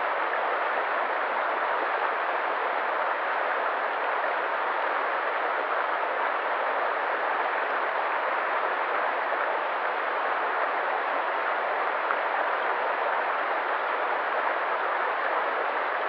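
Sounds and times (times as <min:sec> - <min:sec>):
river water rushing: 0:00.1 - 0:16.0.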